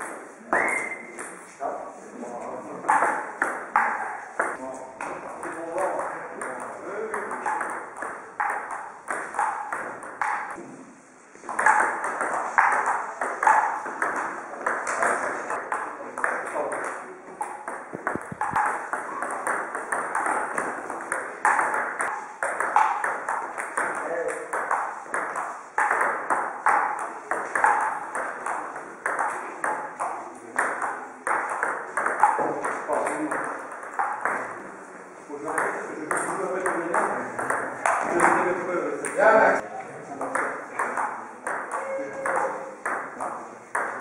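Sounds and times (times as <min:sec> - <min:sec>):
table tennis ball hits: 0:00.0 - 0:01.6, 0:02.8 - 0:10.7, 0:11.4 - 0:34.8, 0:35.4 - 0:39.4, 0:40.1 - 0:44.0.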